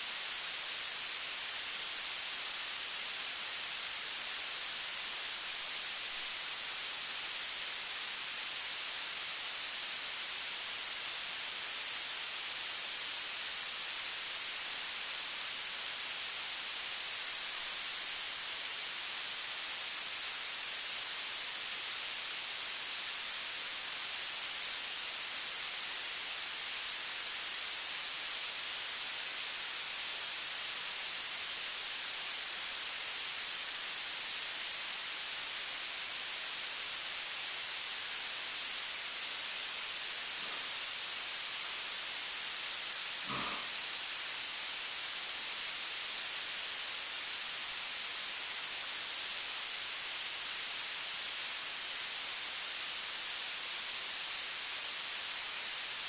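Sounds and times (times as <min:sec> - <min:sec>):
static hiss: 0:00.0 - 0:56.0.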